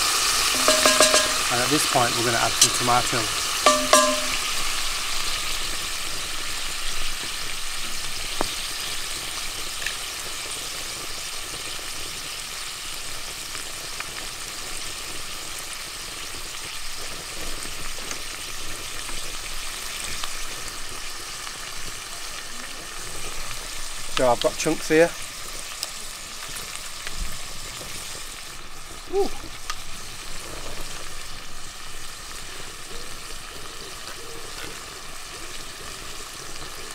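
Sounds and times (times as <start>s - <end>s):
onions sizzling in a pot: 0.0s - 36.9s.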